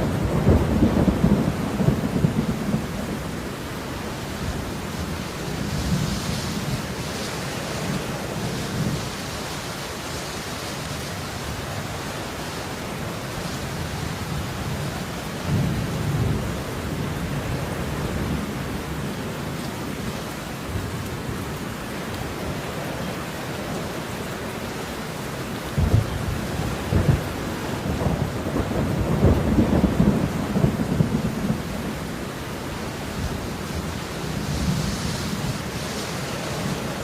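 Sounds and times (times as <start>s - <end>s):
steady falling rain: 0.0s - 37.0s.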